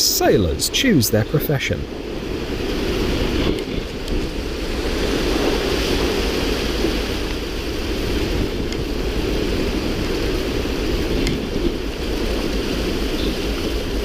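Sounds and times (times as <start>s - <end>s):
wind rushing: 0.0s - 13.1s
sea waves: 0.0s - 14.0s
wind buffeting microphone: 0.0s - 14.0s.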